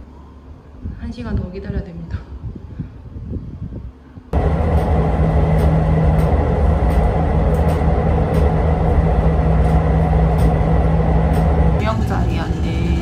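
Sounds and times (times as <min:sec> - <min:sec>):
train carriage rumble and hum: 0:00.0 - 0:13.0.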